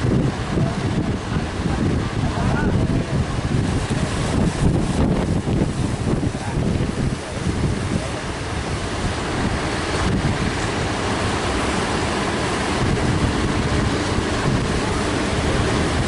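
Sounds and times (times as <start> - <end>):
waves breaking: 0.0 - 16.0
wind buffeting microphone: 0.0 - 16.0.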